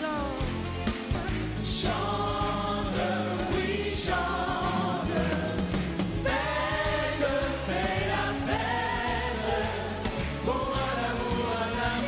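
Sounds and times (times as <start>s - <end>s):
pop band with pulsing bass: 0.0s - 12.0s
voices singing together: 1.2s - 12.0s.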